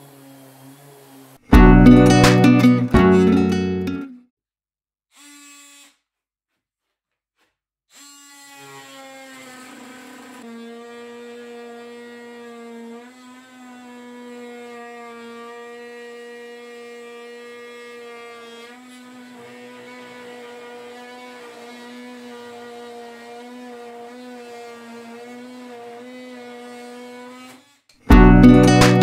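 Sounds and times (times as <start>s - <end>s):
oscillating multi-tool cutting wood: 0.0s - 1.6s, 5.1s - 28.2s.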